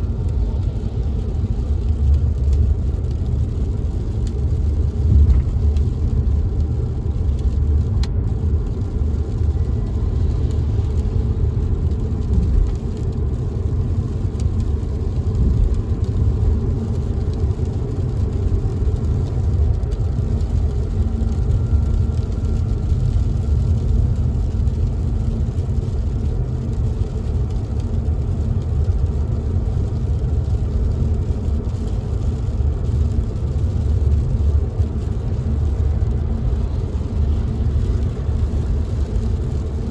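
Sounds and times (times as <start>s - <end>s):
road and engine rumble: 0.0s - 39.9s
raindrops tapping on window: 0.2s - 39.8s.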